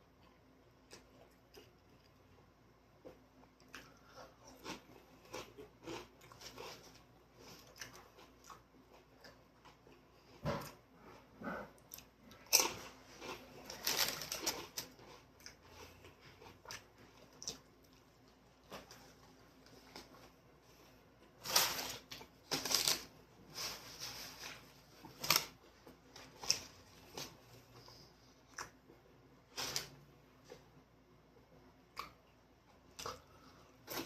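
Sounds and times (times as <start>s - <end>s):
person chewing food: 0.2s - 23.1s, 24.4s - 30.7s, 31.8s - 34.0s.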